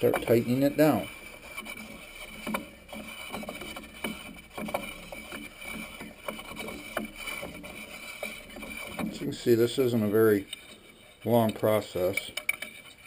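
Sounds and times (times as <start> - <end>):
metal scrapes and clicks: 0.0 - 13.0.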